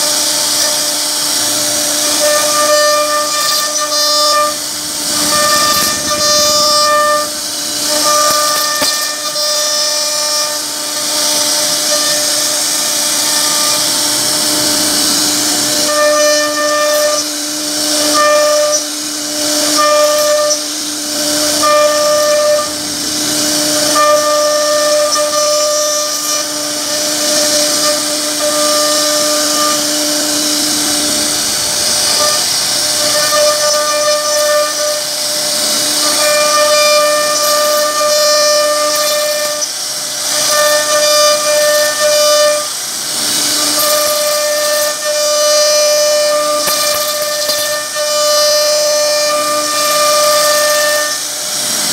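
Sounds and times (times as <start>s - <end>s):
hiss of wood cutting: 0.0s - 51.9s
router spindle whine: 0.0s - 51.9s.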